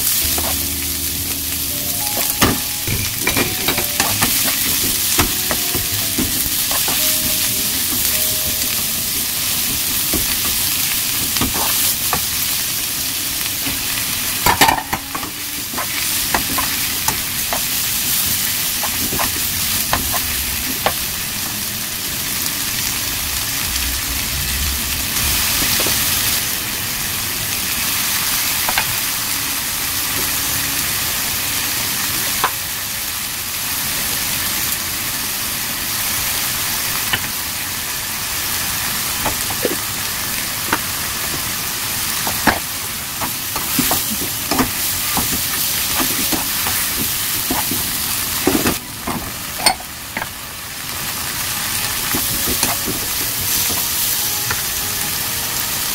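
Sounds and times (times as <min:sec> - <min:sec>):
vegetables sizzling in hot oil: 0:00.0 - 0:55.9.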